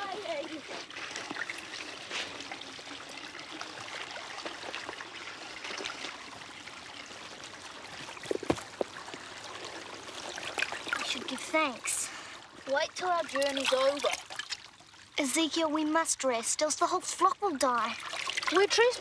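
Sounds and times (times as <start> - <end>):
stream running over rocks: 0.0 - 19.0.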